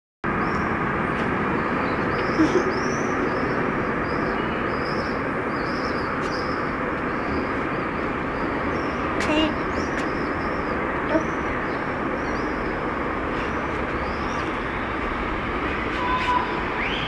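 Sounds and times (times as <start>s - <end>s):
steady rushing noise: 0.2s - 17.0s.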